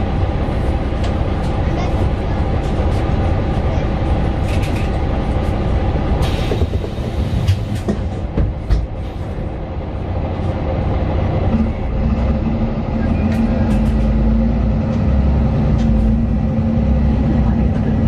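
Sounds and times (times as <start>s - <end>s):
bus body rattles and clicks: 0.0s - 18.0s
bus engine and road rumble: 0.0s - 18.0s.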